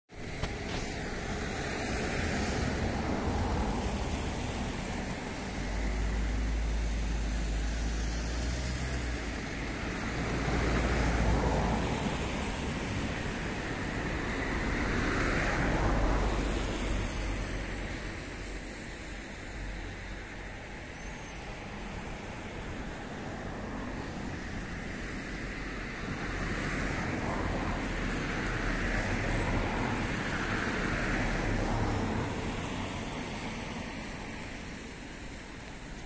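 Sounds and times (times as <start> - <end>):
road traffic: 0.1 - 36.0
vehicles passing: 0.2 - 36.0.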